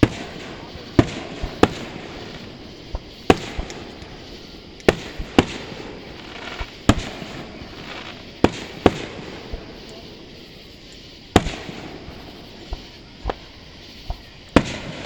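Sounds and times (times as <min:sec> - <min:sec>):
fireworks bursting with echo: 0:00.0 - 0:15.0.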